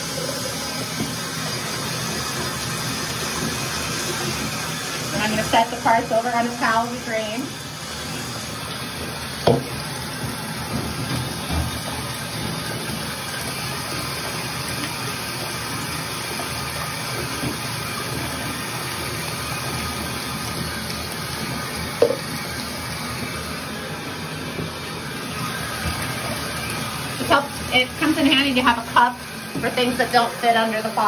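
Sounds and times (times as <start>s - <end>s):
faucet running into bathtub: 0.0s - 31.0s
water splashing over metal: 0.0s - 31.0s.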